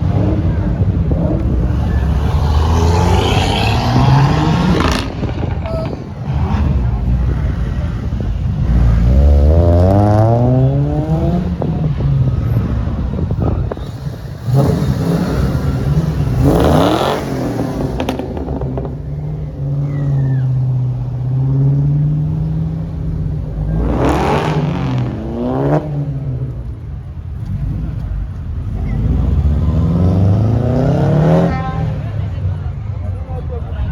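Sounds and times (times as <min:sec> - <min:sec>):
car engines accelerating hard: 0:00.0 - 0:33.9.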